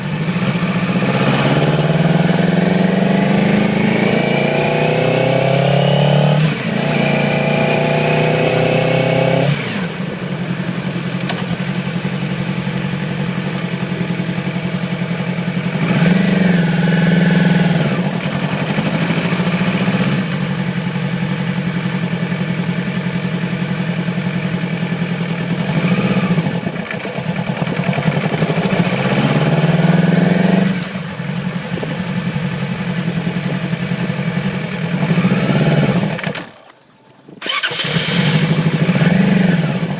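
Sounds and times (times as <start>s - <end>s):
motorcycle engine revving with misfire: 0.0s - 36.7s, 37.4s - 39.9s.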